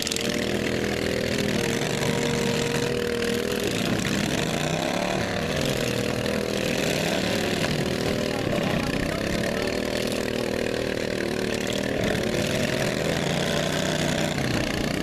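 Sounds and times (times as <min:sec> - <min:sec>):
racing lawn mower engines revving: 0:00.0 - 0:15.0.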